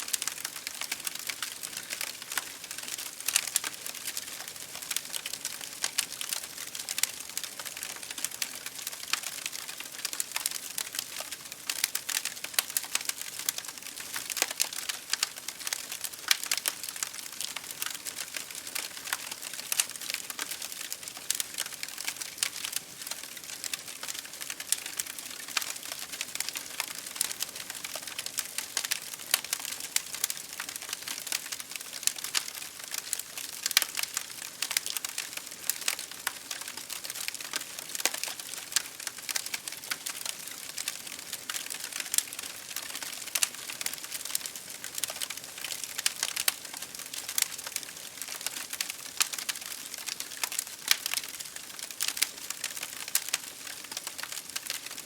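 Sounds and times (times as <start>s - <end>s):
wood fire crackling: 0.0s - 55.0s
rain hitting a window: 0.1s - 55.0s.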